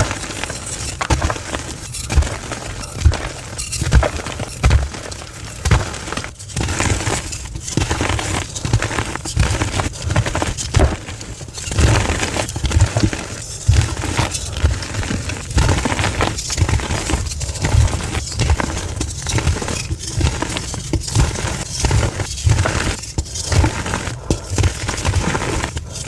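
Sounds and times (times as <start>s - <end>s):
chalk crunching and crumbling: 0.0s - 26.0s.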